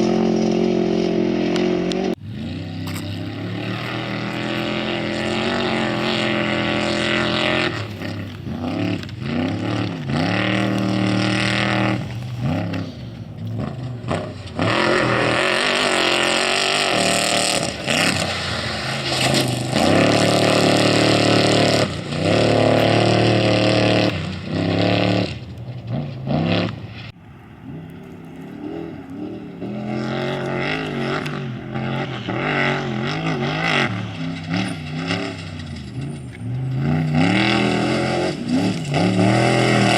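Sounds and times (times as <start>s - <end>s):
race vehicle engines revving past: 0.0s - 39.9s.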